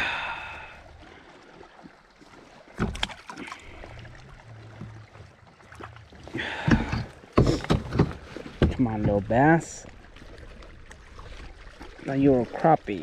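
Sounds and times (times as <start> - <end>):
water lapping at boat: 0.0 - 13.0.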